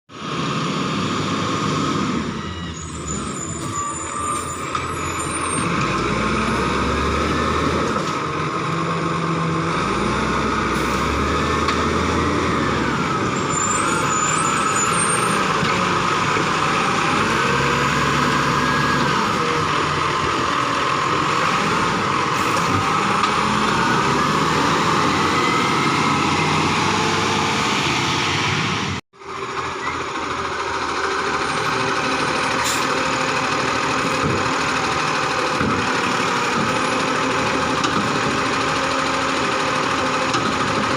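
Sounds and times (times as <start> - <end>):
garbage truck engine revving: 0.2 - 40.9.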